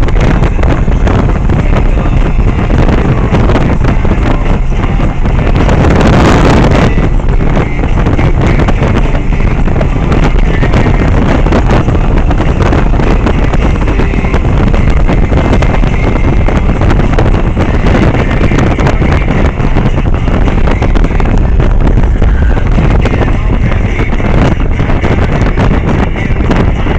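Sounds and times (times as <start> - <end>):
motorcycle engine drone: 0.0 - 26.9
wind buffeting microphone: 0.0 - 26.9.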